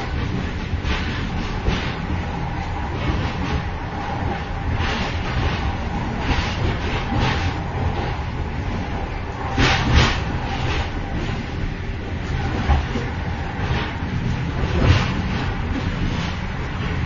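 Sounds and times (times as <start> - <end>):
train rumbling and rattling: 0.0 - 17.0.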